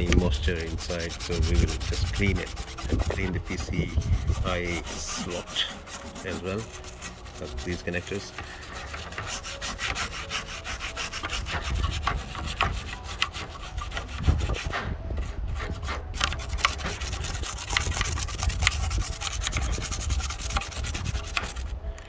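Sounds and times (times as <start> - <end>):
toothbrush scrubbing circuit board: 0.0 - 14.8, 15.6 - 21.7.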